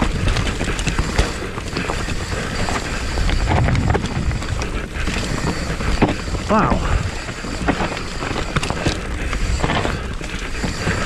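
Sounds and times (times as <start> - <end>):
bike knocks and rattles: 0.0 - 11.0
bike tyres rumbling on dirt trail: 0.0 - 11.0
wind buffeting microphone: 0.0 - 11.0.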